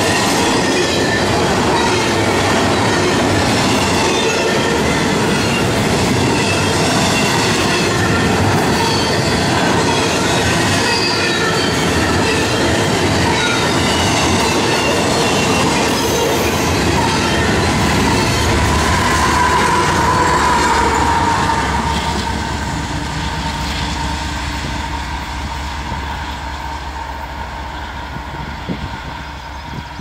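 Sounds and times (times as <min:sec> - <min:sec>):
freight train rolling on rails: 0:00.0 - 0:30.0
train wheel squeal: 0:00.0 - 0:30.0.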